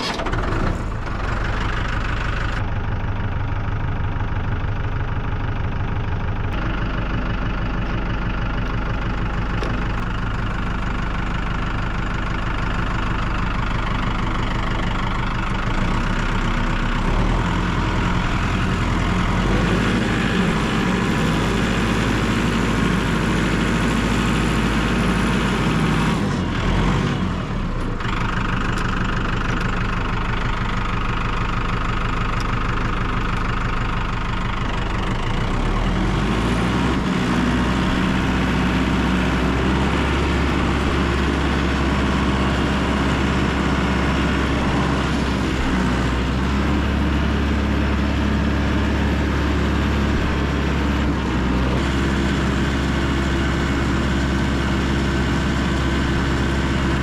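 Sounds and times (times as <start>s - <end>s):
tractor engine idling roughly: 0.0s - 57.0s.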